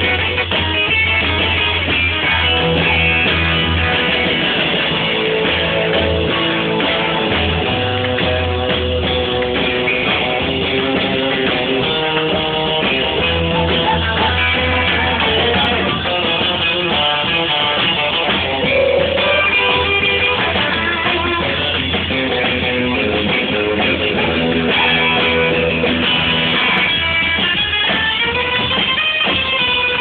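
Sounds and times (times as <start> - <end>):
bass line: 0.0 - 30.0
electric guitar: 0.0 - 30.0
rock band playing: 0.0 - 30.0.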